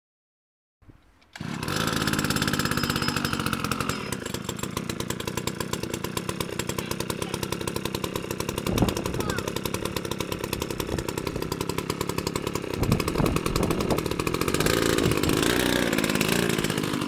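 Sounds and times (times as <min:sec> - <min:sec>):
small engine buzzing: 0:01.2 - 0:17.0.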